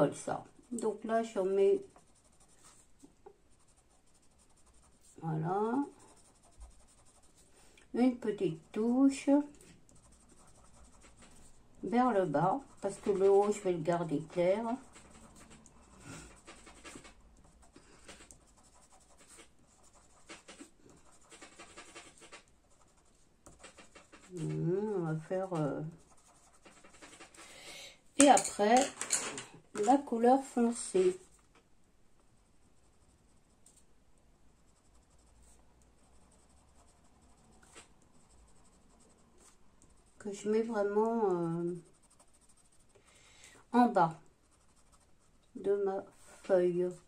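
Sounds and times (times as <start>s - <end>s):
pencil scratching on paper: 0.0s - 27.6s, 32.6s - 33.8s, 34.6s - 43.1s, 43.8s - 47.0s.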